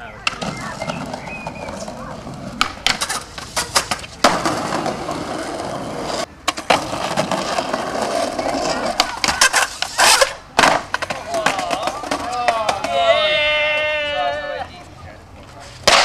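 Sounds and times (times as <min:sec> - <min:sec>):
skateboard wheels rolling on pavement: 0:00.0 - 0:16.0
skateboard clacking on ground: 0:00.1 - 0:13.9, 0:15.4 - 0:16.0.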